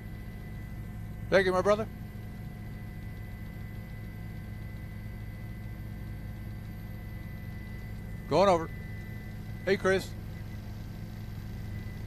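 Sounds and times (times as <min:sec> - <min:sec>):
constant high tones: 0:00.0 - 0:12.0
low hum: 0:00.0 - 0:12.0.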